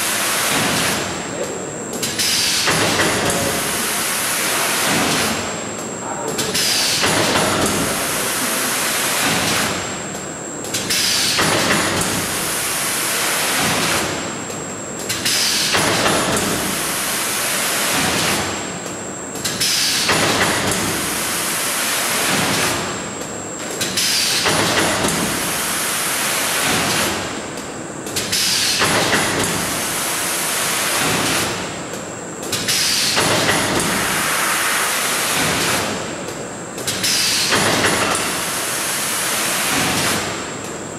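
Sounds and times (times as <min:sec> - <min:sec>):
bagging machine rushing noise: 0:00.0 - 0:01.3, 0:02.0 - 0:10.0, 0:10.8 - 0:14.3, 0:15.1 - 0:18.8, 0:19.4 - 0:23.1, 0:23.8 - 0:27.4, 0:28.2 - 0:31.7, 0:32.5 - 0:36.2, 0:36.9 - 0:40.6.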